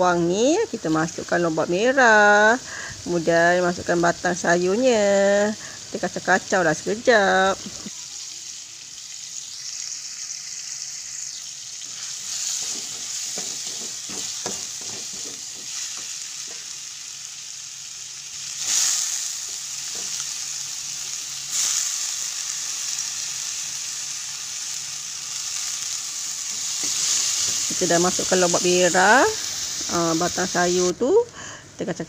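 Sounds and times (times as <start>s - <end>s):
vegetables sizzling in hot oil: 0.0s - 31.5s.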